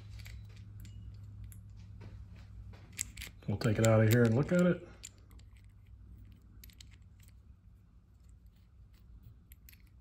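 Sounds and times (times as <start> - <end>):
small metal parts clicking: 0.0 - 1.6, 2.9 - 7.6, 8.2 - 10.0.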